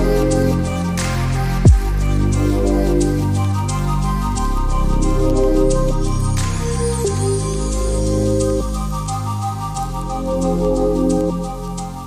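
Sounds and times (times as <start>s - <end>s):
synth pad chords: 0.0s - 12.0s.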